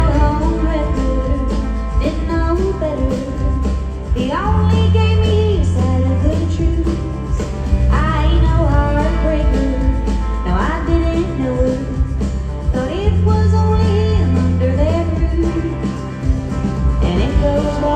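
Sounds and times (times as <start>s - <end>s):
woman singing: 0.0s - 16.2s, 16.9s - 17.9s
country band playing: 0.0s - 17.9s
heavy bass line: 0.0s - 17.9s.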